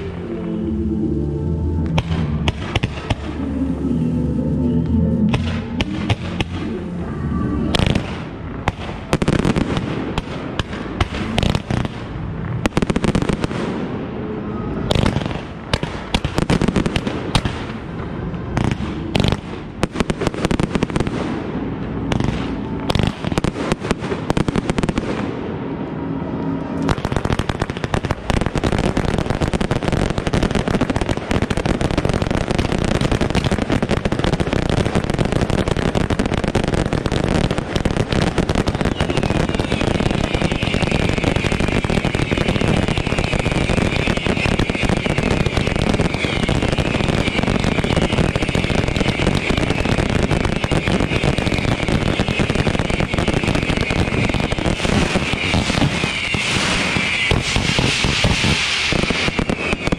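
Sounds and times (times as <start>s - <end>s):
fireworks shots and bangs: 1.8s - 3.4s, 5.3s - 6.8s, 7.7s - 59.9s
fireworks crackling and hissing: 1.8s - 3.8s, 5.3s - 59.9s.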